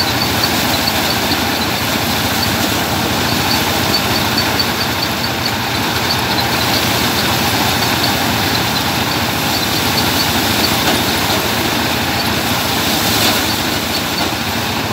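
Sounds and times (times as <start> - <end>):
thresher mechanical din: 0.0 - 14.9.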